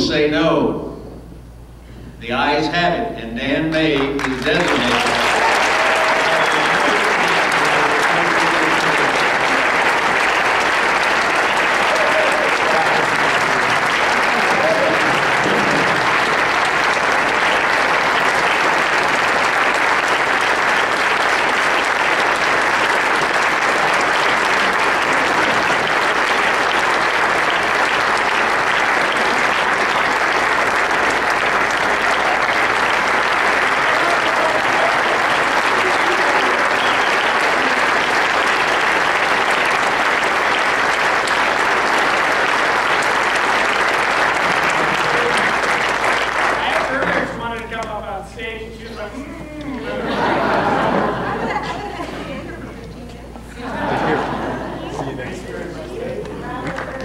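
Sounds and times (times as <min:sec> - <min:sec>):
people applauding: 0:03.7 - 0:57.0.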